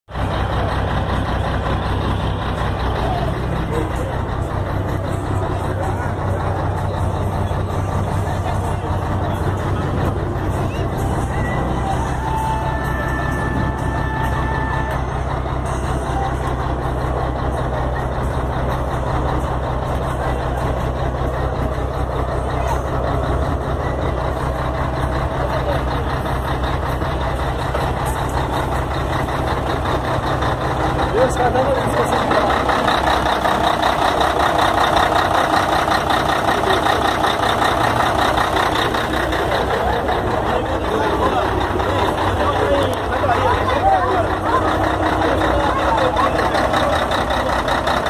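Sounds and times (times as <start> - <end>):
truck diesel engine idling: 0.0 - 48.0.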